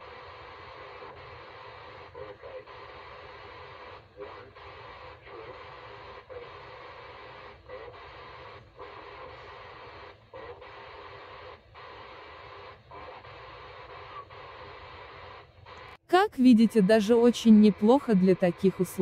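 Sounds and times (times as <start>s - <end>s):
hissing rasping radio signal: 0.0s - 19.0s.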